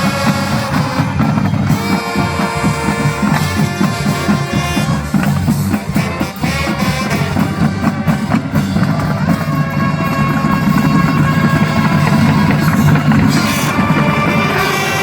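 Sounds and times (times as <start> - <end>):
bass drum and snare strokes: 0.0 - 15.0
drumline playing: 0.0 - 15.0
horn chords: 0.0 - 15.0.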